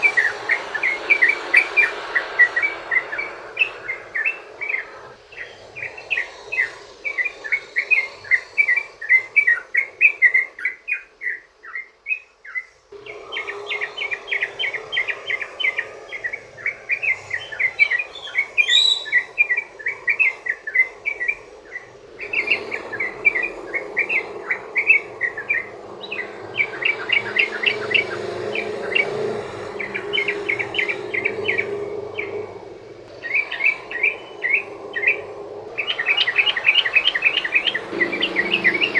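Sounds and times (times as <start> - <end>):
bird singing chattering notes: 0.0 - 38.9
steady background hiss: 0.0 - 38.9.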